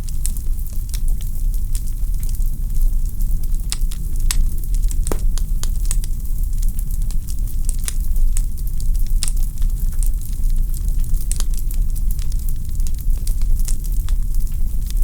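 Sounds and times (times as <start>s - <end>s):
rumble of fire flames: 0.0s - 15.0s
logs crackling and popping: 0.2s - 15.0s.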